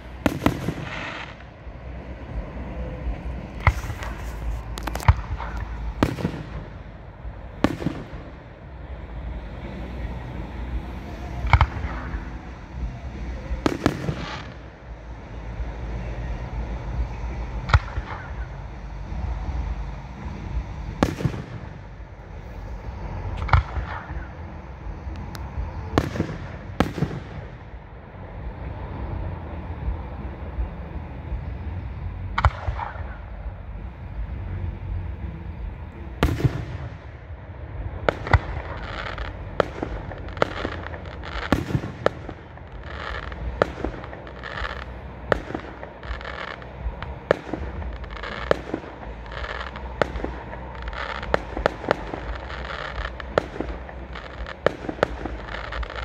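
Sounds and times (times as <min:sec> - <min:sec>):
firework bangs and crackling pops: 0:00.0 - 0:27.9, 0:31.4 - 0:33.5, 0:35.6 - 0:56.0
firework bursts: 0:00.0 - 0:56.0.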